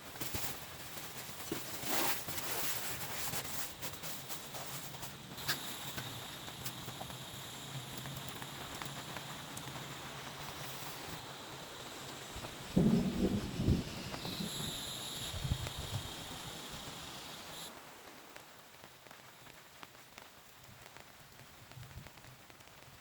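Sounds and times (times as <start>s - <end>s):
rain falling steadily: 0.0s - 23.0s
raindrops tapping nearby: 3.2s - 23.0s.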